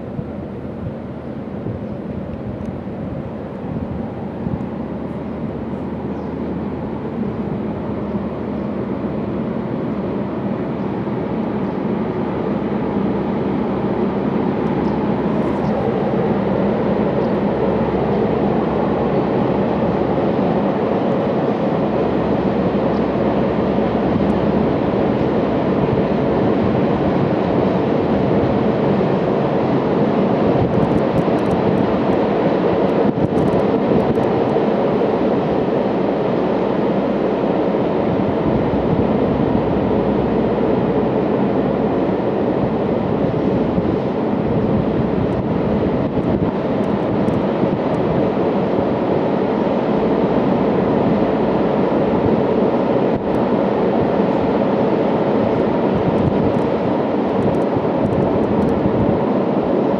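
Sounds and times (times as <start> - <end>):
freight train rumbling across bridge: 0.0 - 59.9.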